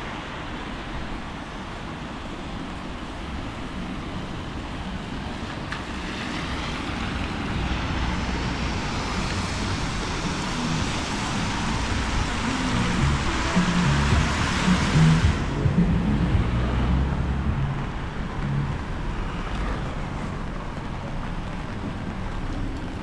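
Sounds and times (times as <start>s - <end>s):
wind and rain hiss: 0.0s - 23.0s
wind gusts buffeting microphone: 0.4s - 23.0s.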